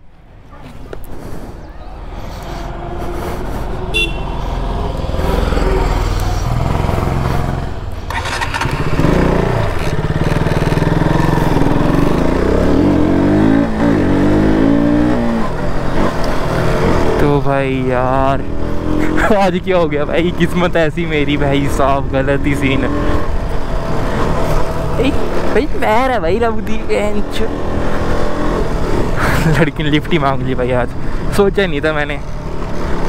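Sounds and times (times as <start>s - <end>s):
motorcycle engine accelerating: 1.1s - 25.6s, 26.8s - 29.7s.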